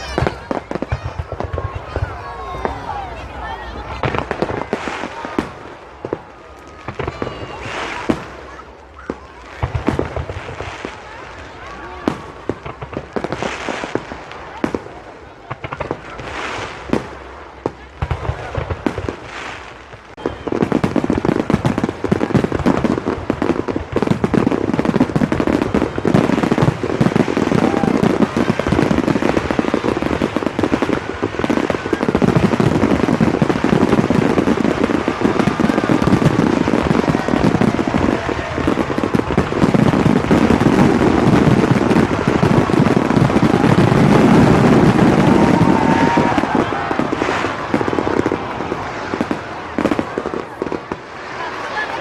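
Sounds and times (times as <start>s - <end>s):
fireworks bangs and crackle: 0.0s - 52.0s.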